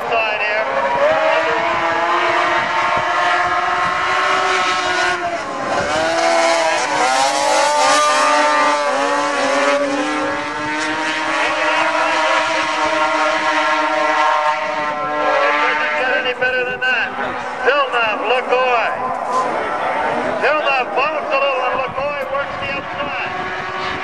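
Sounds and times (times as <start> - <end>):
snowmobile engines revving: 0.0 - 24.0.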